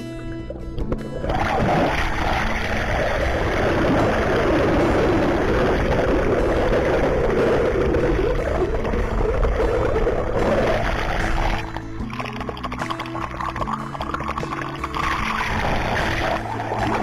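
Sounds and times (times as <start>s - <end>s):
muffled churning water underwater: 0.0s - 17.0s.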